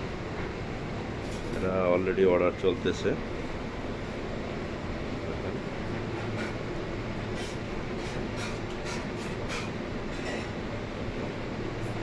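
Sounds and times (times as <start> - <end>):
deep fryer bubbling: 0.0 - 12.0
kitchen hum and rush: 0.0 - 12.0.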